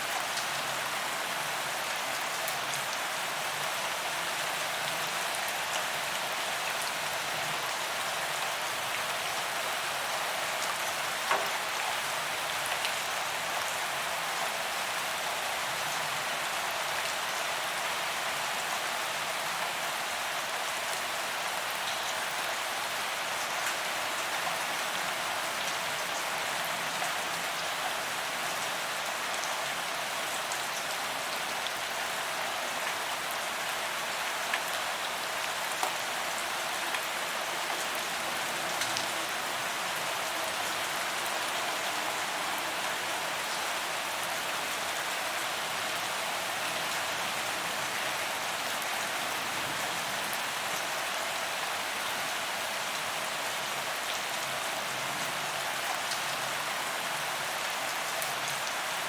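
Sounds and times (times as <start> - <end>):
steady rain on pavement: 0.0 - 59.0.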